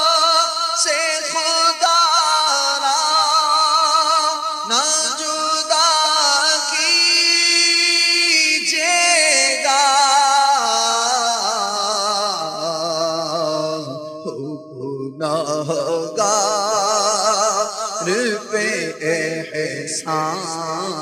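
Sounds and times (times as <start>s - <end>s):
man singing with vibrato: 0.0s - 21.0s.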